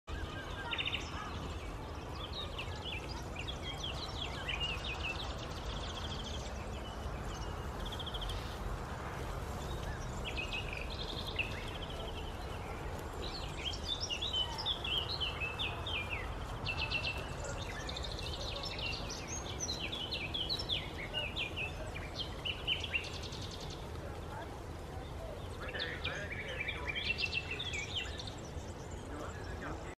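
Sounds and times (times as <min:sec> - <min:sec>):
songbirds chirping and trilling: 0:00.1 - 0:30.0.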